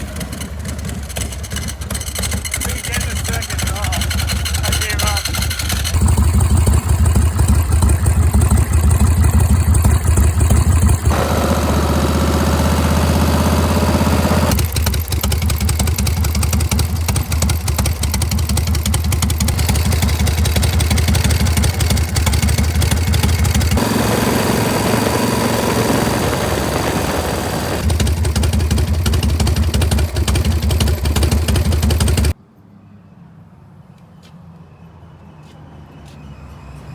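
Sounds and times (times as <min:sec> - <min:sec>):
motorcycle engine rumbling: 0:00.0 - 0:32.4.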